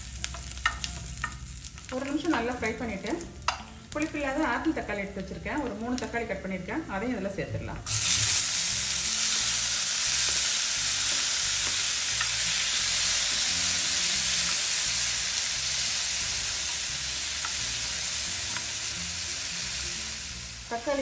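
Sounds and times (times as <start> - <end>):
tomatoes sizzling in hot oil: 0.0 - 21.0.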